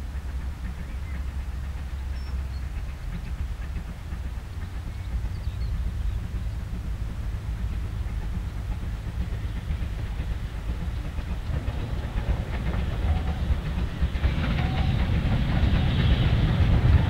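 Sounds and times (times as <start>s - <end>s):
distant steam locomotive rumble: 0.0s - 17.0s.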